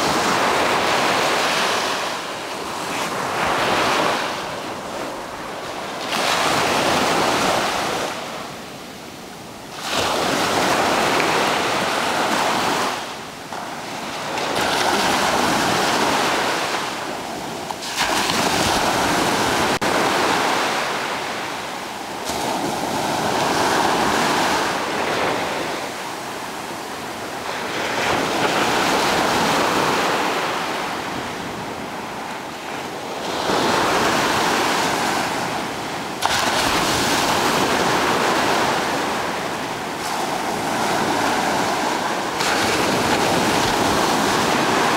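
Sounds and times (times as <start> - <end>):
ocean surf breaking: 0.0 - 9.0, 9.7 - 44.9.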